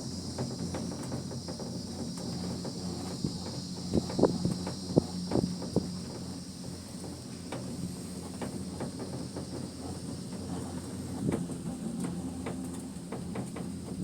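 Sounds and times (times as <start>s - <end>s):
cable car low hum: 0.0s - 14.0s
steady high hiss: 0.0s - 14.0s.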